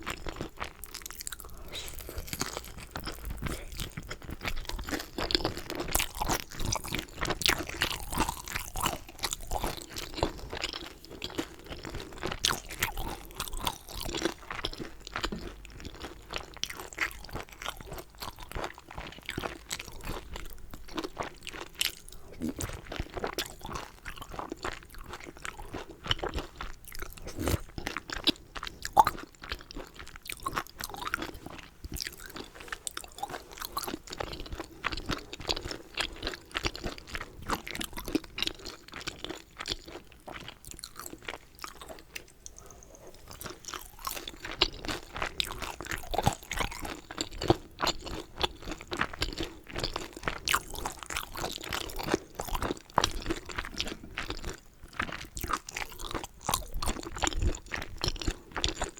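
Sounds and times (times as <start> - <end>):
person chewing dumplings: 0.0 - 58.9.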